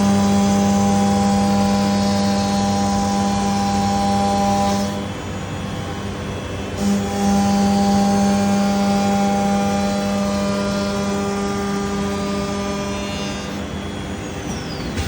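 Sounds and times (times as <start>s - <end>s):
router machine humming and whining: 0.0s - 15.0s.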